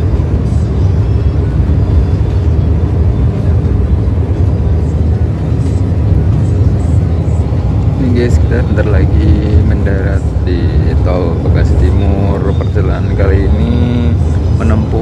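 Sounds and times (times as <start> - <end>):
bus engine rumble from inside: 0.0 - 15.0.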